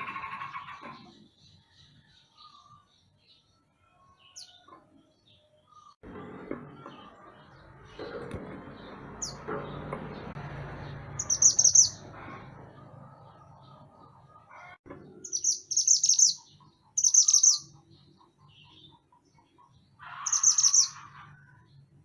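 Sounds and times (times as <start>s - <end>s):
bird chirping: 0.5s - 6.0s, 6.8s - 12.1s, 15.1s - 21.9s.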